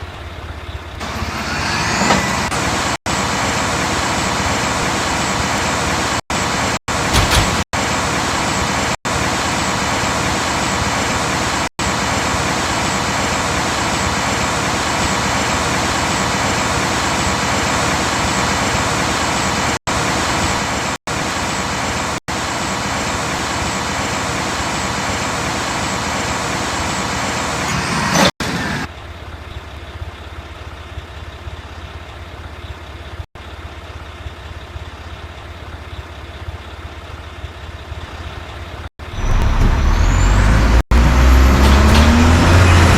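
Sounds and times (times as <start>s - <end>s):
garbage truck running: 0.0s - 42.9s.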